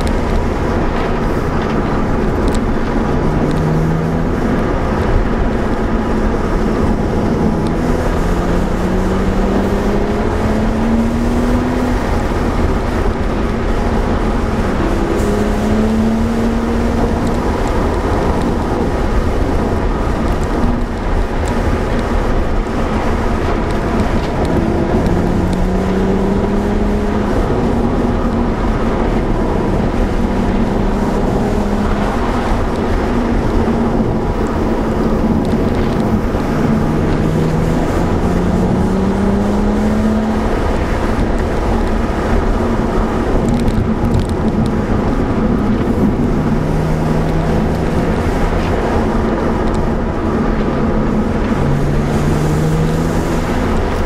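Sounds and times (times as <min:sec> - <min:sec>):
car engine accelerating: 0:00.0 - 0:54.0
road and tyre noise: 0:00.0 - 0:54.0.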